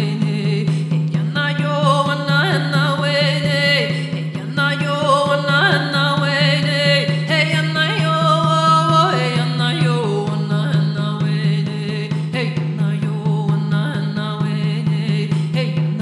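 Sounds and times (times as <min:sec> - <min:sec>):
frame drum beat: 0:00.0 - 0:16.0
woman chanting: 0:00.0 - 0:16.0.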